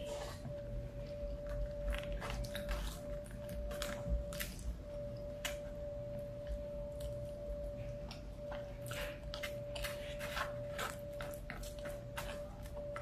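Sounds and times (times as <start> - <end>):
steady high hum: 0.0 - 13.0
chewing: 1.4 - 5.7, 6.4 - 13.0.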